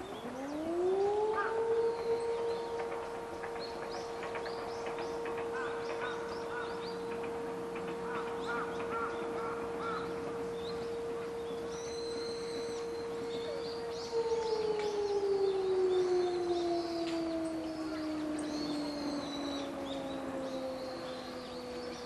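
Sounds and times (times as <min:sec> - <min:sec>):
small birds chirping: 0:00.0 - 0:22.0
warning siren steady tone: 0:00.0 - 0:22.0.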